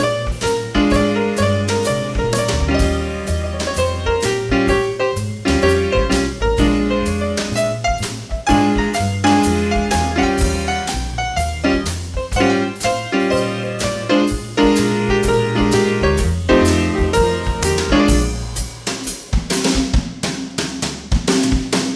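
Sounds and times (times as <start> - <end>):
walking bass line: 0.0 - 18.9
piano chords: 0.0 - 19.2
light percussion strikes: 0.0 - 20.4.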